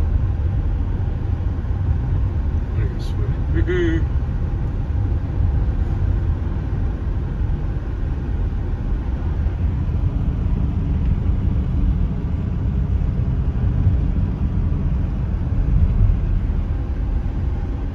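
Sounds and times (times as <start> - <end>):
truck engine and tyre noise: 0.0 - 17.9.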